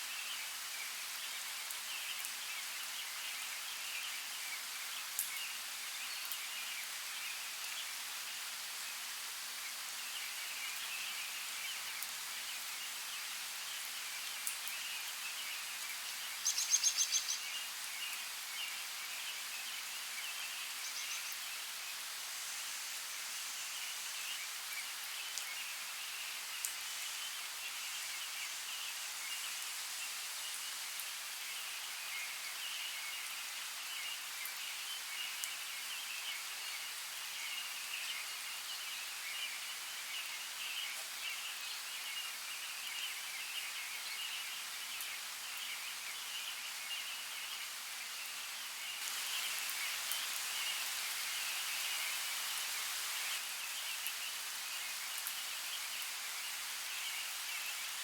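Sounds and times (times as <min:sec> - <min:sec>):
continuous water hiss: 0:00.0 - 0:58.0.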